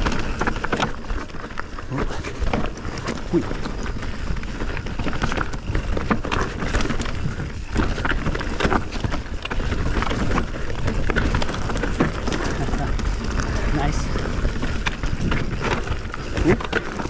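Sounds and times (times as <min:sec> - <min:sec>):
bike rattling and knocking: 0:00.0 - 0:17.0
bike tyres rolling on dirt: 0:00.0 - 0:17.0
wind rumble on camera: 0:00.0 - 0:17.0.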